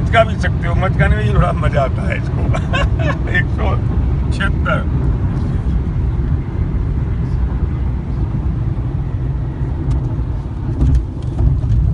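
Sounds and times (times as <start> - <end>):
road and wind noise in car cabin: 0.0 - 11.9.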